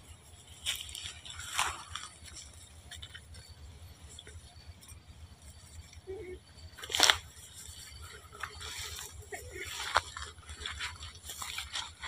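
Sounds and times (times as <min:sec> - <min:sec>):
dry grass and leaves crackling: 0:00.0 - 0:12.0.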